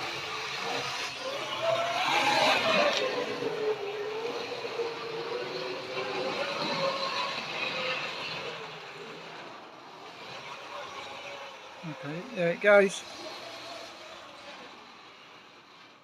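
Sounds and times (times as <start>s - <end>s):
electric motor whining: 0.0s - 15.4s.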